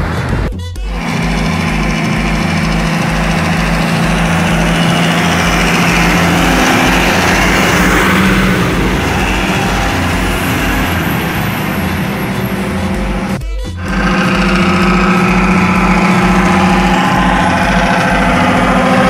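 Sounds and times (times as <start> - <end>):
truck passing by: 0.0 - 19.0.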